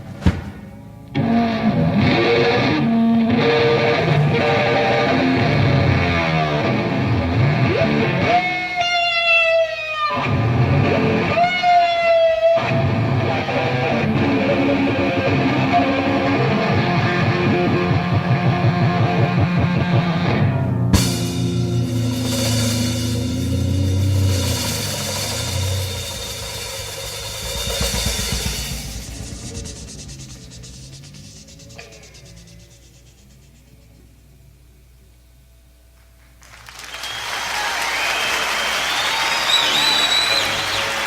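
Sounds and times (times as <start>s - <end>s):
distorted electric guitar: 0.8s - 34.0s.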